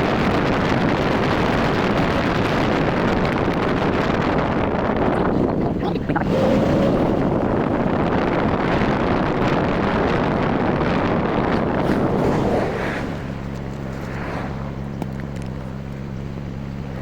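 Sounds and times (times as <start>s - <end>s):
motorcycle engine: 0.0s - 17.0s
wind rush on microphone: 0.0s - 17.0s.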